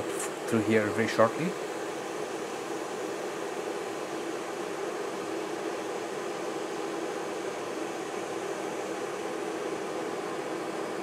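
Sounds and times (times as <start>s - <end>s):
electric kettle heating water: 0.0s - 11.0s.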